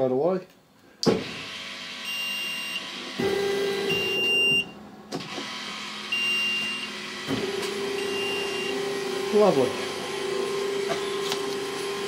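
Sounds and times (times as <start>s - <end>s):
motor hum: 1.4s - 12.0s.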